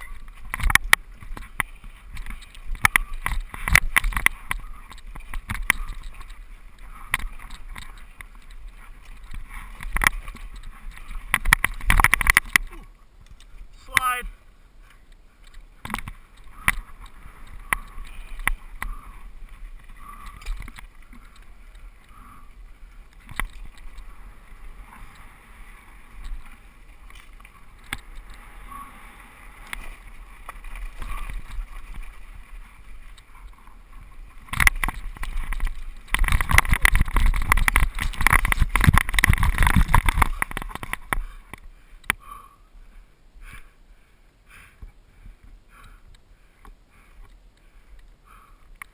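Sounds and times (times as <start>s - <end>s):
bike rattling and clattering: 0.0s - 13.6s, 15.4s - 41.7s
tyres on dirt: 0.0s - 48.9s.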